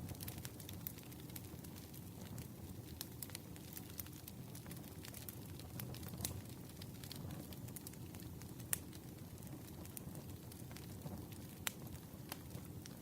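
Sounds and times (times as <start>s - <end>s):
campfire crackling and popping: 0.0s - 13.0s
low rumble of fire: 0.0s - 13.0s.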